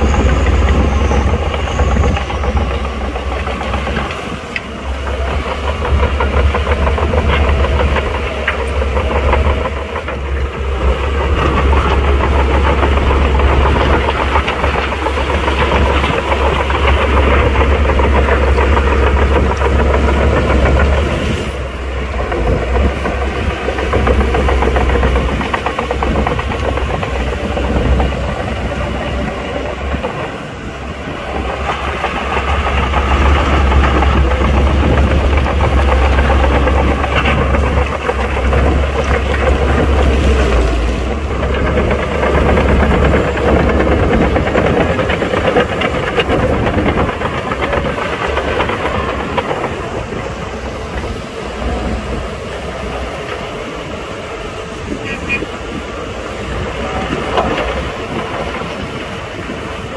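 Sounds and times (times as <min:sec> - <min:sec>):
bulldozer diesel engine under load: 0:00.0 - 0:59.9
mechanical clatter: 0:00.0 - 0:59.9.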